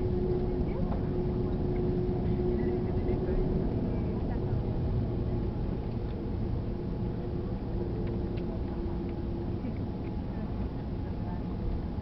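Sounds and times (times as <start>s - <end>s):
airplane cabin engine rumble: 0.0s - 12.0s
faint hum: 0.0s - 12.0s.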